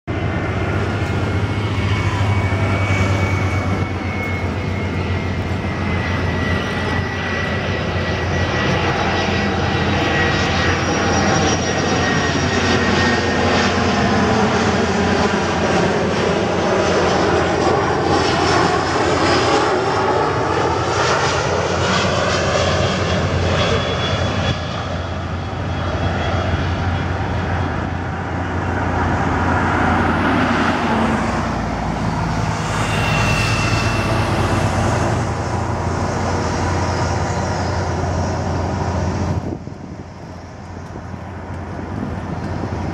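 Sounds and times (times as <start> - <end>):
jet engine fan whine: 0.1 - 42.9.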